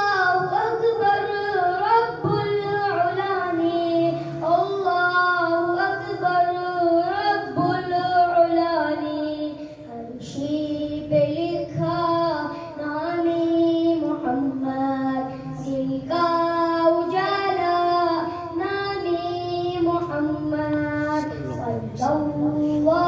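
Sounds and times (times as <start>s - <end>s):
boy singing into a microphone: 0.0s - 23.0s.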